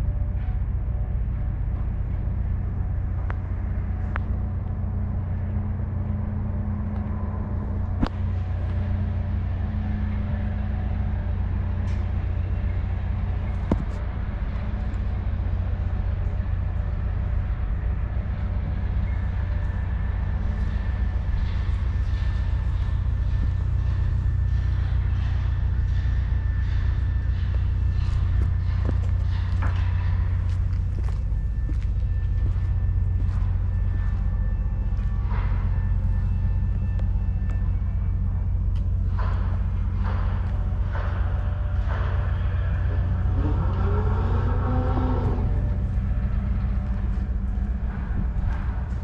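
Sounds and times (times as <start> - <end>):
engine droning: 0.0 - 49.0.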